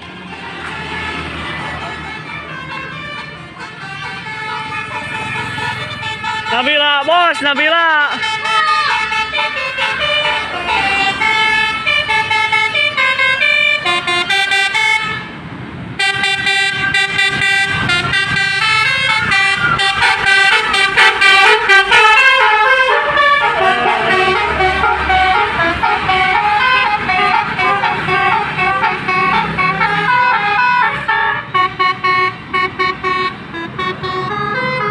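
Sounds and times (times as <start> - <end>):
bus musical air horn tune: 2.1 - 15.3, 16.0 - 34.9.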